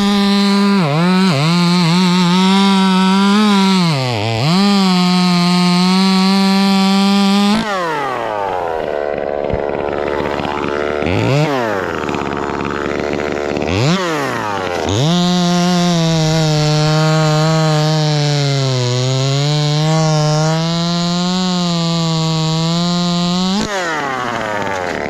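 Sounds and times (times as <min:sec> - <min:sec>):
chainsaw revving and idling: 0:00.0 - 0:25.0.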